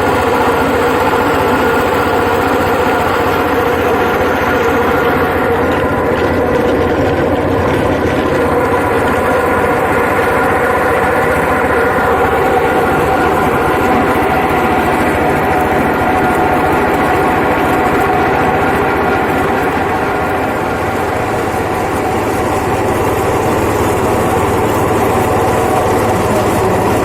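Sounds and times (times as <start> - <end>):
husking machine humming and rattling: 0.0 - 27.0.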